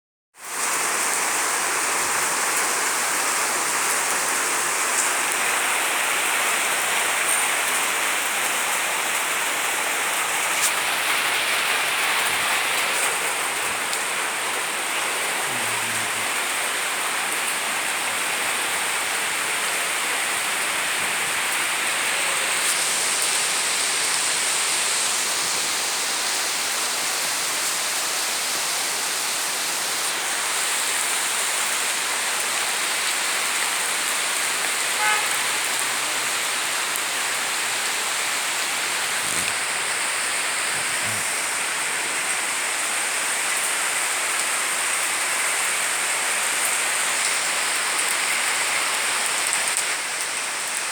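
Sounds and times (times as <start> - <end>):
heavy rain falling: 0.4 - 50.9.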